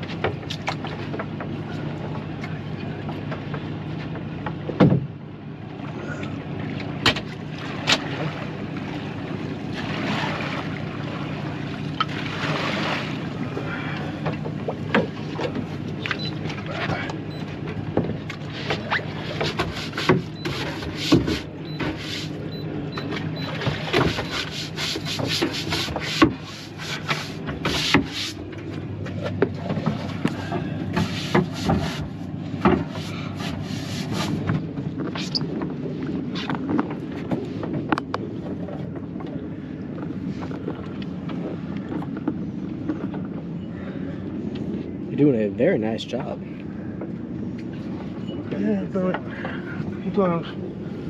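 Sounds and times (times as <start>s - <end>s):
gear clattering on boat deck: 0.0s - 50.7s
steady low hum: 0.0s - 51.0s.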